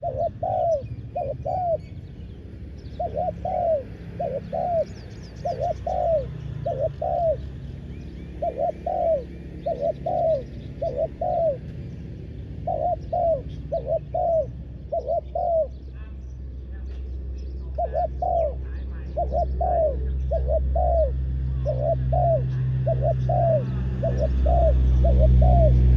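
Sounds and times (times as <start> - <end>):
dove cooing: 0.0 - 16.1, 17.6 - 25.9.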